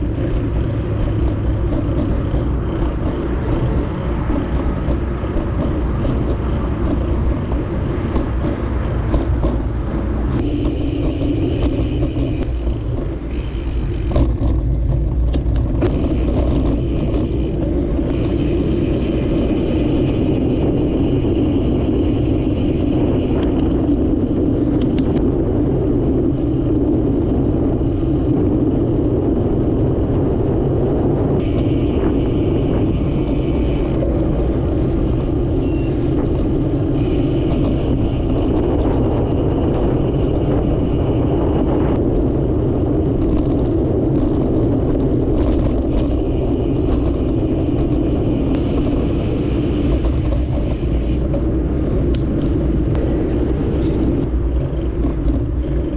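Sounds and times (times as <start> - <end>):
bicycle road and wind noise: 0.0 - 55.9.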